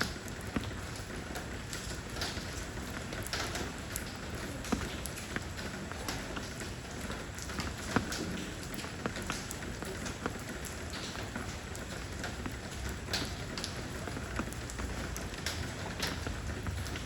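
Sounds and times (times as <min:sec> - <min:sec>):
raindrops pattering on stones: 0:00.0 - 0:17.0.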